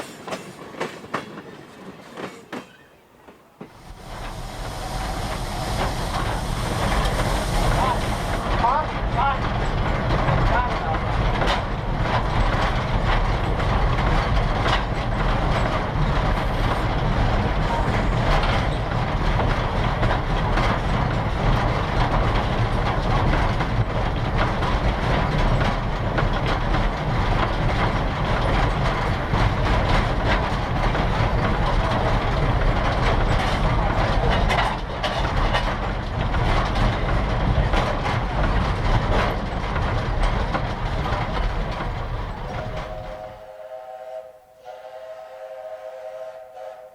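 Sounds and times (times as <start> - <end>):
wheels clicking over rail joints: 0.0 - 43.4
train rumbling on rails: 0.0 - 46.9.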